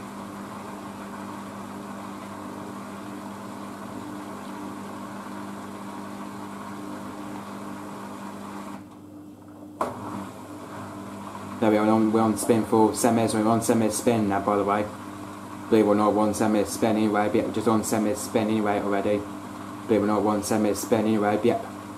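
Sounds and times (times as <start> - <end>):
washing machine humming: 0.0 - 21.9.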